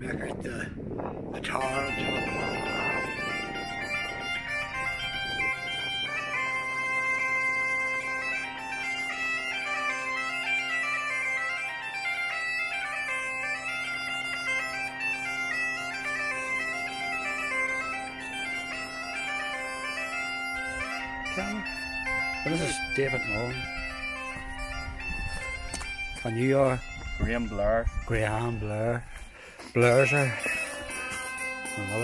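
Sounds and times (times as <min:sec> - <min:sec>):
bagpipe music: 0:01.2 - 0:32.0.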